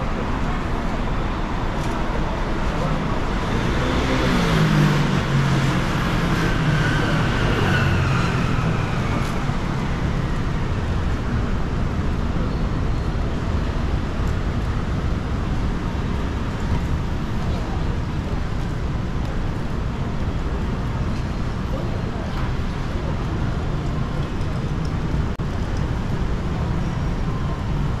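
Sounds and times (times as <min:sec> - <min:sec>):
street noise: 0:00.0 - 0:28.0.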